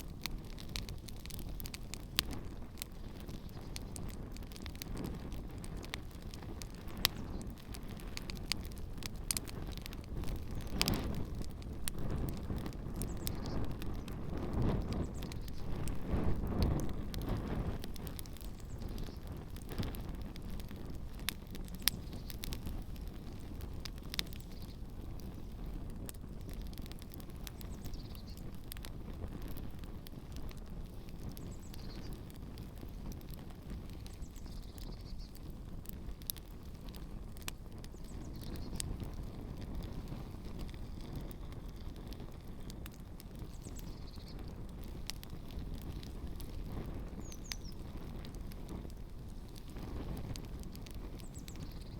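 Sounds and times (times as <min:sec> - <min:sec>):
campfire crackling and popping: 0:00.0 - 0:51.9
wind rumble on microphone: 0:00.0 - 0:51.9.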